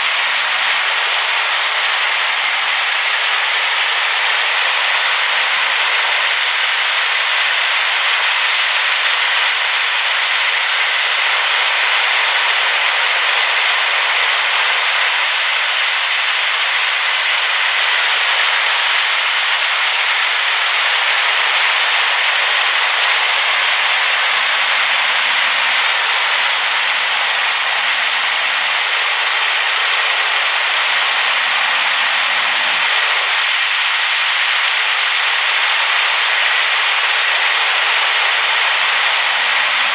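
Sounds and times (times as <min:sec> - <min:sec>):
waterfall rushing: 0:00.0 - 0:16.2, 0:17.2 - 0:39.9.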